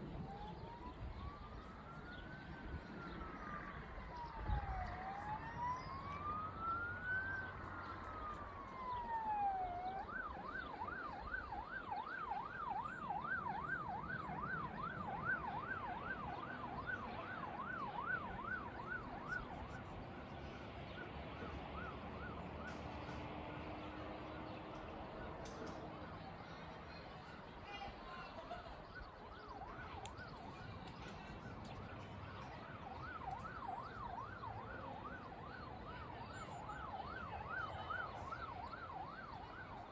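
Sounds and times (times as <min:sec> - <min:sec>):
emergency vehicle siren: 0:00.0 - 0:27.6, 0:28.3 - 0:39.9.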